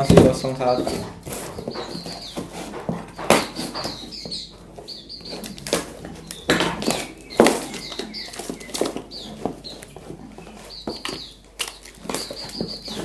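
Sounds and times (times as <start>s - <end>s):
birds squeaking: 0.0s - 13.0s.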